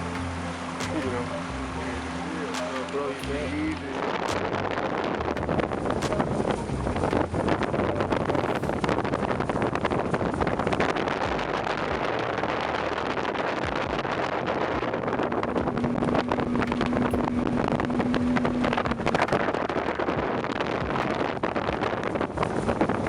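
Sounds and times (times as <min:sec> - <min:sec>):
outboard motor running: 0:00.0 - 0:23.0
wind buffeting microphone: 0:00.0 - 0:23.0.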